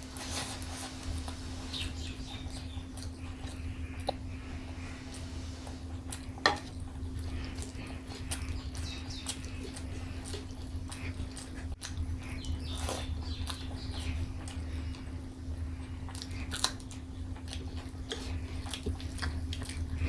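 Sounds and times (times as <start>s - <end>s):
low electrical hum: 0.0s - 20.0s
wet chewing and mouth clicks: 0.0s - 20.0s.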